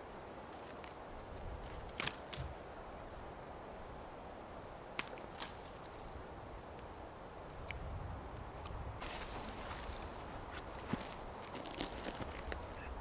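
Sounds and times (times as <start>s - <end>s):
faint steady wind: 0.0s - 13.0s.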